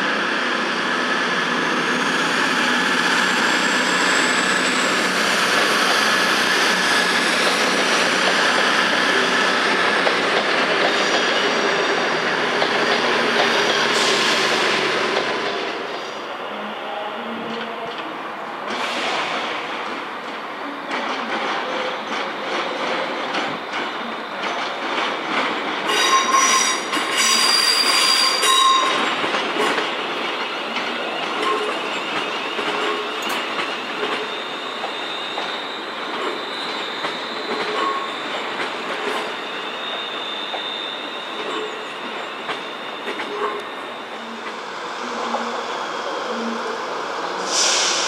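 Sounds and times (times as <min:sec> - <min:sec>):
train wheels squealing on rails: 0:00.0 - 0:18.1, 0:20.7 - 0:48.0.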